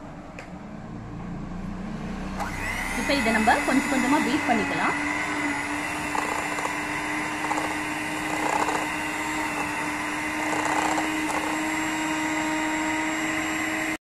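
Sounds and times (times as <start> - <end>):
electric hand mixer whipping cream: 2.4 - 14.0.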